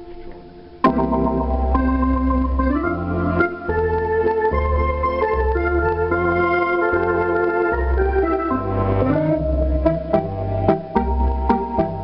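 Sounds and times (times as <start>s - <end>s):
electronic accordion playing: 0.8s - 12.0s.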